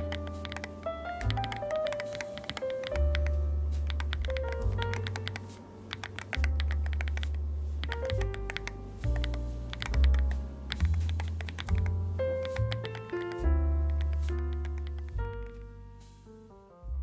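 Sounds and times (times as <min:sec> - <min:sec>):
background music with bass: 0:00.0 - 0:02.2, 0:02.9 - 0:17.0
keyboard typing: 0:00.0 - 0:15.2.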